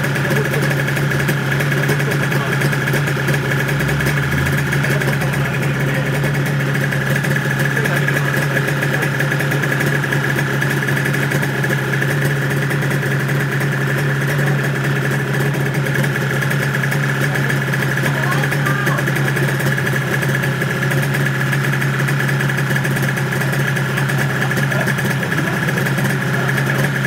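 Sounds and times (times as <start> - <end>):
two-stroke motorcycle engine idling: 0.0 - 27.0.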